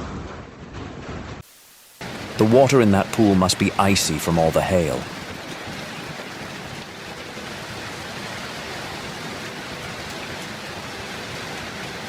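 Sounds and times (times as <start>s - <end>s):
hail and rain pelting: 1.5s - 12.0s.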